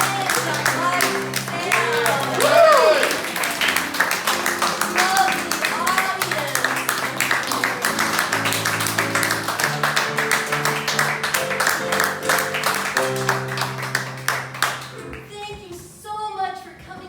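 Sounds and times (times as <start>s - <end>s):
dense clapping: 0.0s - 15.3s.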